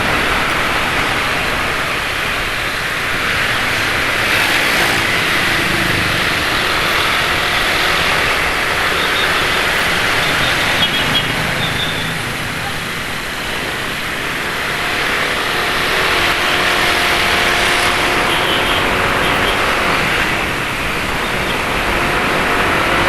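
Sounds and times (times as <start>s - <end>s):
engine passing: 0.0s - 13.2s, 13.9s - 23.0s
motorcycle engines running: 0.0s - 23.0s
traffic rushing noise: 0.0s - 23.0s.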